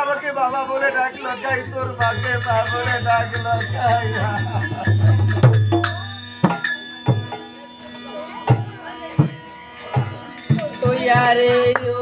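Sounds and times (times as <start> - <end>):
jingling percussion beat: 0.0 - 12.0
wavering melody over drone: 0.0 - 12.0.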